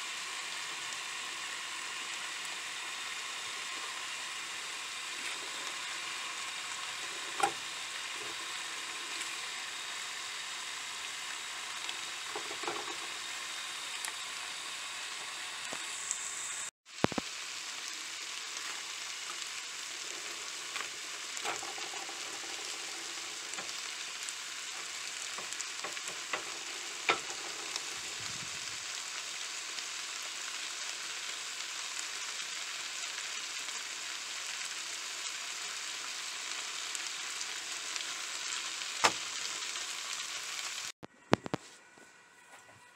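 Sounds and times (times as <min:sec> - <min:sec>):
food frying sizzle: 0:00.0 - 0:41.6.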